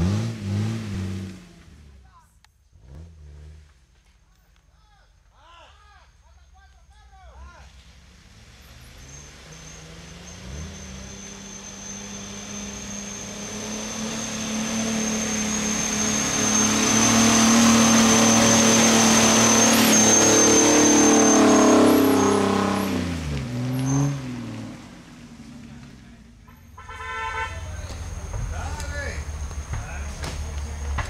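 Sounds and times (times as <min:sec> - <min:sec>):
off-road vehicle engine: 0:00.0 - 0:31.0.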